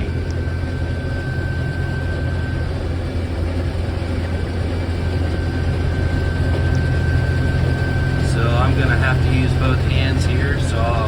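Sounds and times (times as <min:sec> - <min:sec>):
combine harvester engine drone: 0:00.0 - 0:11.0
thin steady whine: 0:00.0 - 0:11.0.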